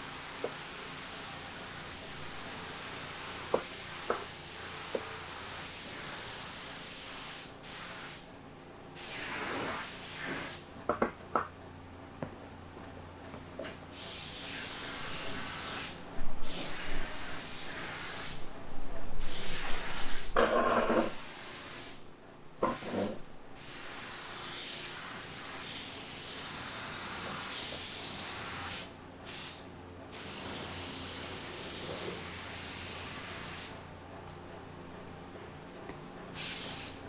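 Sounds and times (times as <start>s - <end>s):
paint spray gun hissing: 0.1s - 8.3s, 9.0s - 10.7s, 14.0s - 18.5s, 19.2s - 33.9s, 36.4s - 37.0s.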